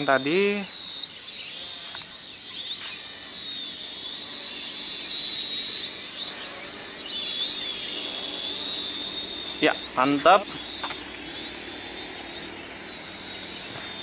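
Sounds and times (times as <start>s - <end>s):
toy drone propellers whining: 0.0s - 14.0s.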